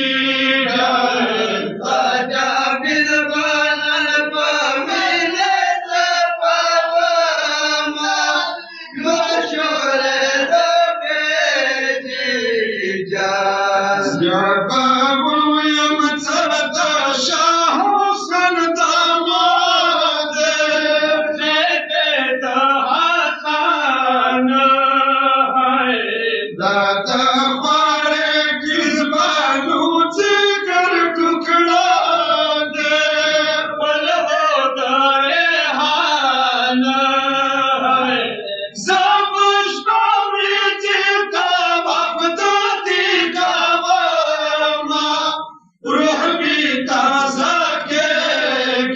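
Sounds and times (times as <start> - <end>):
men chanting a lament: 0.0 - 48.9.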